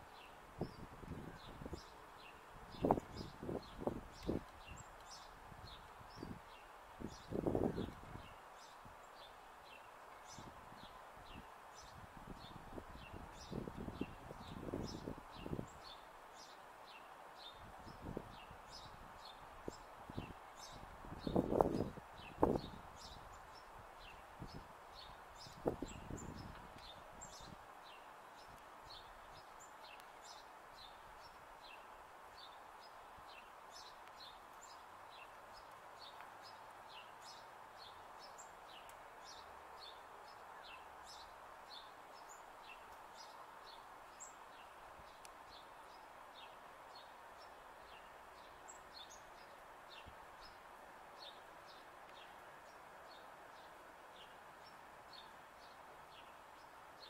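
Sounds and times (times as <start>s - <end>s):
low background hiss: 0.0s - 57.0s
small birds chirping: 0.0s - 57.0s.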